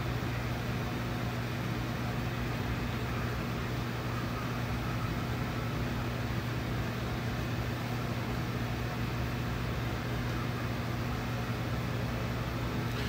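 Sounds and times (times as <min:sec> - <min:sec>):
air conditioner running: 0:00.0 - 0:13.0.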